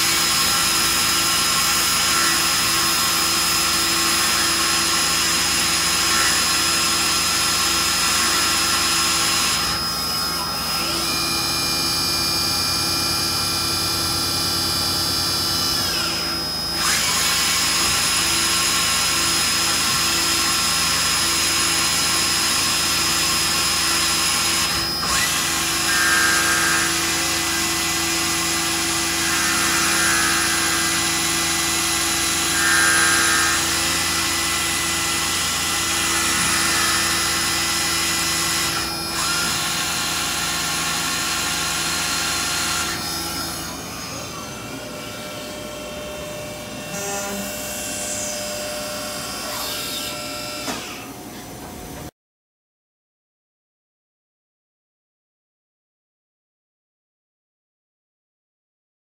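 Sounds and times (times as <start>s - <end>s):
lathe machine whine: 0.0s - 51.3s.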